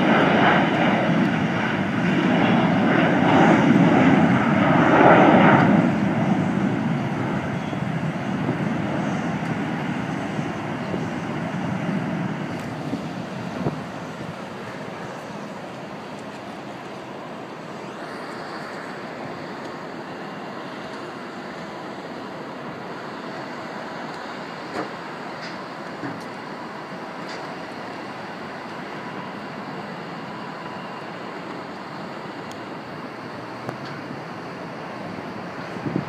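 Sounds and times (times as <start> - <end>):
distant road traffic roar: 0.0 - 36.0
jet engines: 0.0 - 36.0.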